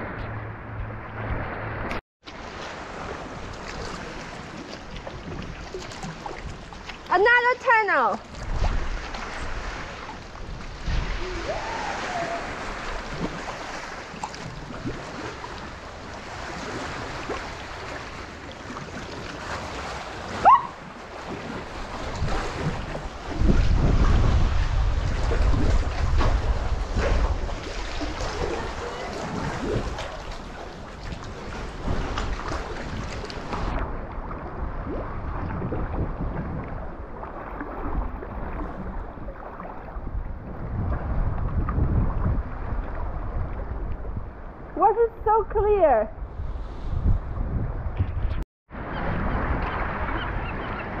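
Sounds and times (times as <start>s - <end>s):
water lapping around kayak: 0.0s - 51.0s
wind noise on microphone: 0.0s - 51.0s.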